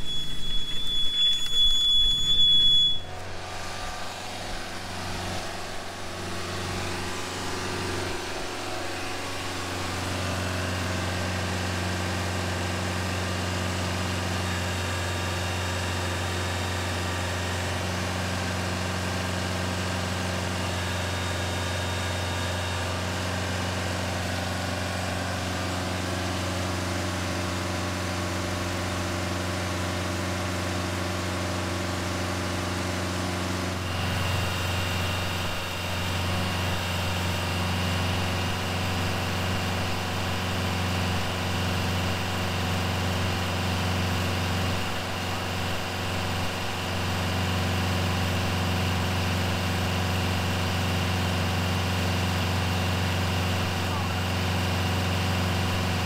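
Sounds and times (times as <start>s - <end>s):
rushing noise with high whistle: 0.0s - 30.6s, 33.7s - 48.6s
vehicle engine idling: 0.0s - 56.0s.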